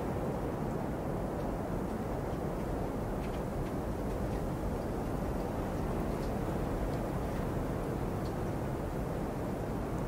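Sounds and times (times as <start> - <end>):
blizzard wind blowing: 0.0 - 10.0
faint light ticks: 0.6 - 8.7.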